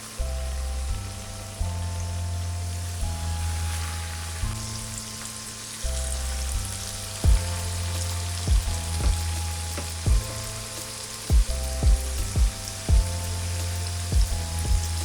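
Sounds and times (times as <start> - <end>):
chicken deep-frying in oil: 0.0 - 15.0
music with bass and drums: 0.0 - 15.0.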